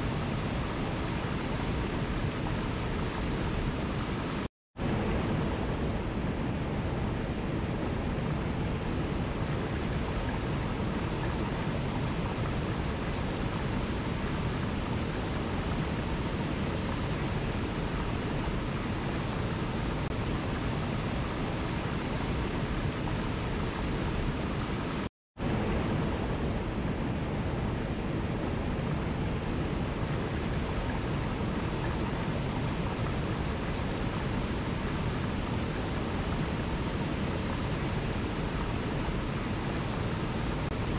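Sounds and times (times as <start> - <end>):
waterfall rushing over rocks: 0.0 - 6.7, 7.6 - 26.4, 28.2 - 40.9.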